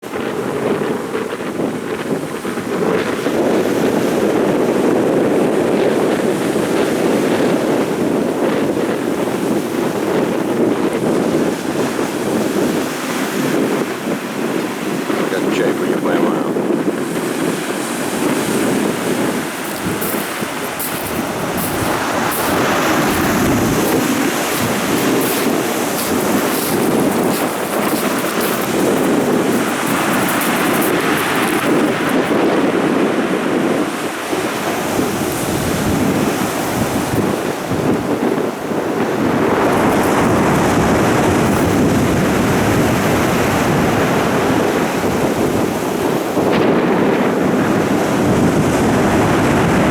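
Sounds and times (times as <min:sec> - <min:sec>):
wind buffeting microphone: 0:00.0 - 0:49.9
surf breaking on shore: 0:00.1 - 0:49.9.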